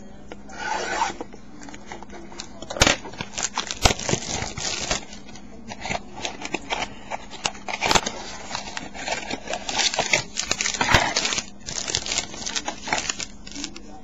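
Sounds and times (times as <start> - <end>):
foil wrapper crinkling: 1.6 - 14.0.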